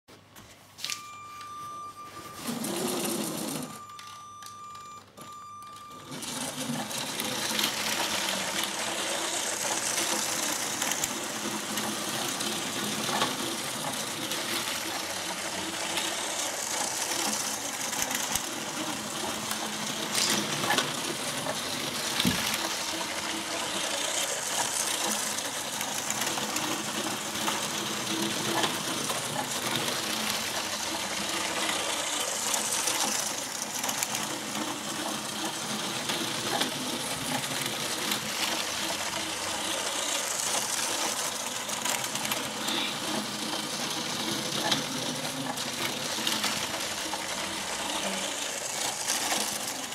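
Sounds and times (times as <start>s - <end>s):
plastic wheels rattling on track: 2.4s - 3.9s, 6.0s - 49.9s
small electric motor whirring: 6.2s - 49.9s.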